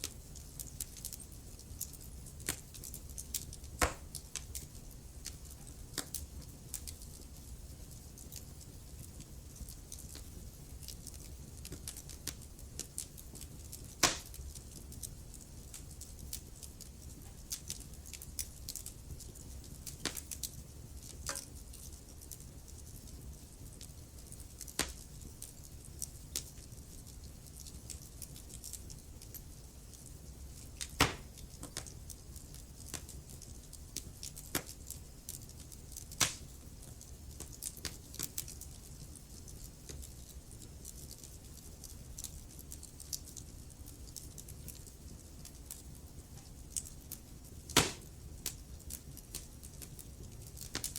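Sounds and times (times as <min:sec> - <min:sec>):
fire crackling in fireplace: 0:00.0 - 0:50.9.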